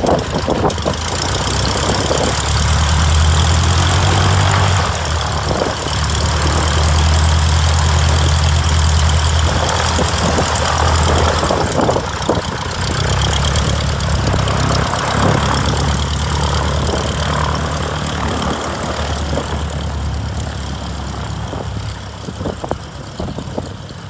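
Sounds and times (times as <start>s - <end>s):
light airplane engine droning: 0.0s - 24.0s.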